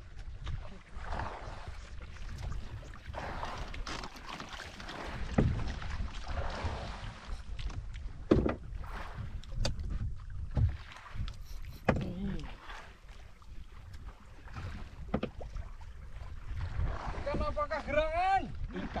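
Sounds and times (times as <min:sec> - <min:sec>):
water noise: 0:00.0 - 0:19.0
wind rumbling on microphone: 0:00.0 - 0:19.0.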